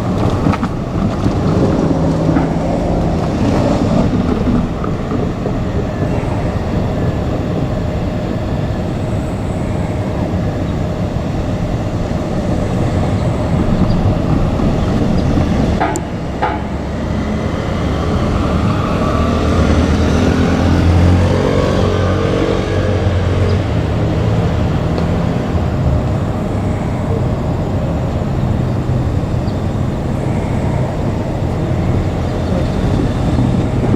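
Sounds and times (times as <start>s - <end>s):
electric train rumble: 0.0s - 33.9s.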